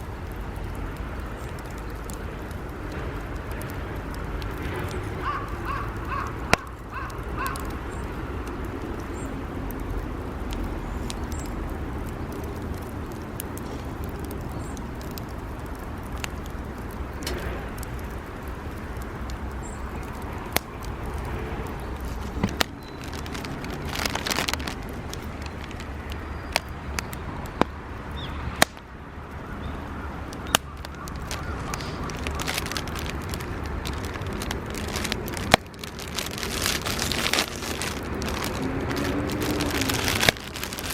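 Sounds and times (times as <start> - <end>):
campfire crackling and popping: 0.0 - 40.9
low fire rumble: 0.0 - 40.9.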